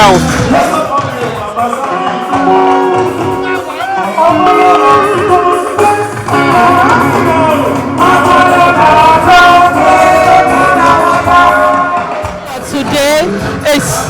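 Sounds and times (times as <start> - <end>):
guitar: 0.0 - 14.0
singing: 0.0 - 14.0.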